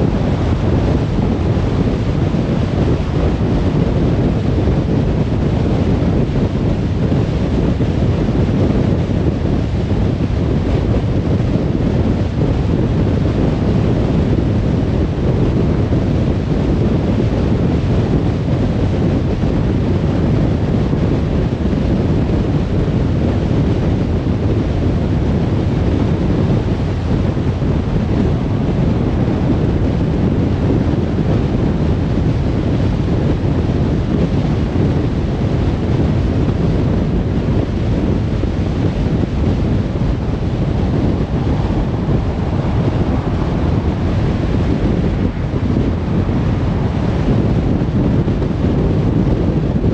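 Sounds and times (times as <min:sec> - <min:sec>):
car tyre and wind noise: 0:00.0 - 0:49.9.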